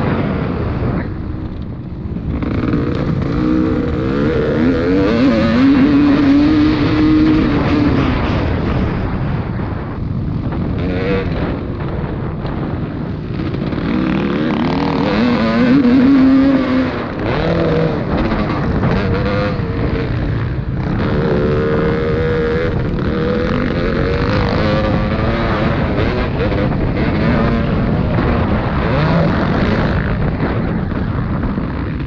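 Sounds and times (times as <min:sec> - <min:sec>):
motocross bikes revving: 0:00.0 - 0:32.0.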